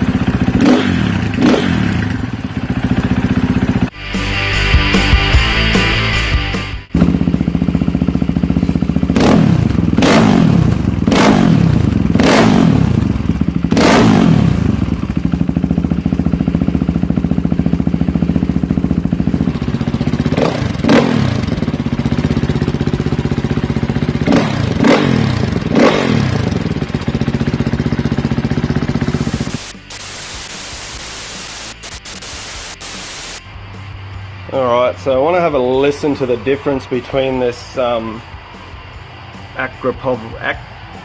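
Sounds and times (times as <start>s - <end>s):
dirt bike engine idling: 0.0s - 4.0s, 6.9s - 40.9s
dirt bike engine revving: 0.0s - 33.4s.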